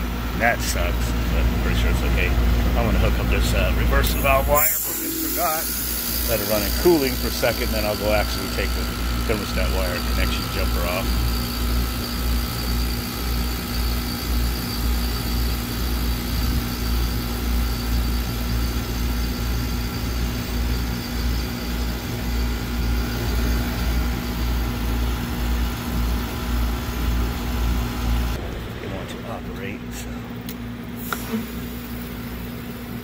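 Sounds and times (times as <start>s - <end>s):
heat pump compressor hum: 0.0s - 33.0s.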